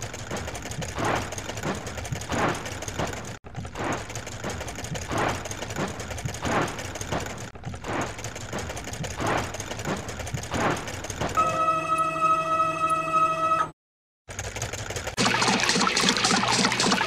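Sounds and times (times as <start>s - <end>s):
cartoon spinning scrub brush whirring: 0.0s - 11.4s, 14.3s - 17.0s.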